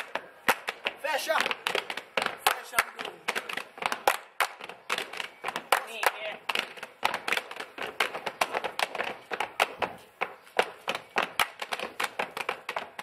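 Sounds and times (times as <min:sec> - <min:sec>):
rhythmic hand claps and slaps: 0:00.0 - 0:13.0.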